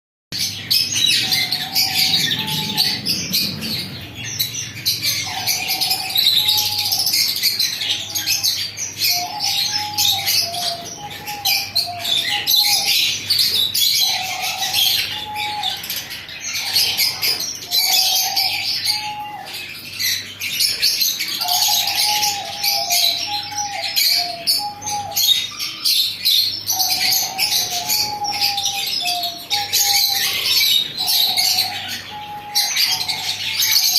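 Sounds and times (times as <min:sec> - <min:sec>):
lovebirds chirping and chattering: 0:00.3 - 0:33.9.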